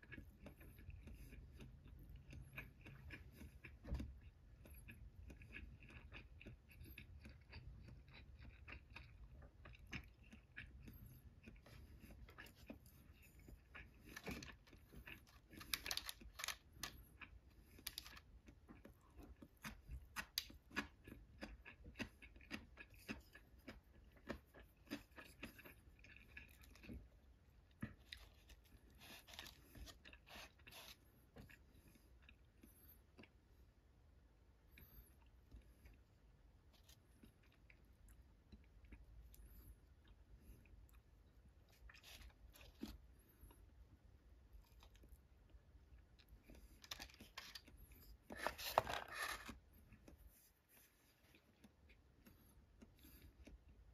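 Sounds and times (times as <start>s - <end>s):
chewing and crunching food: 0.0s - 53.9s.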